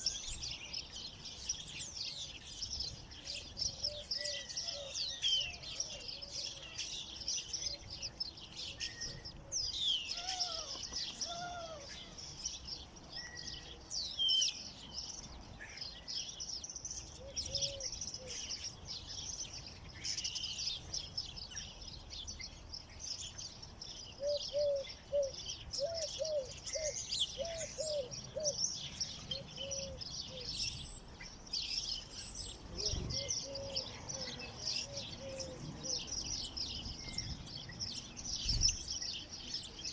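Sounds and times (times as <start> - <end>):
low repeated arched bird calls: 0.0 - 39.9
small birds chirping: 0.0 - 39.9.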